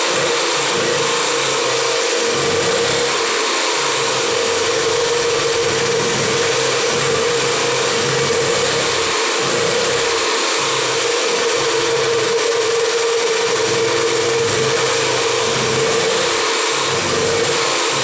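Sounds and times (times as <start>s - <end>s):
petrol generator running: 0.0s - 18.0s.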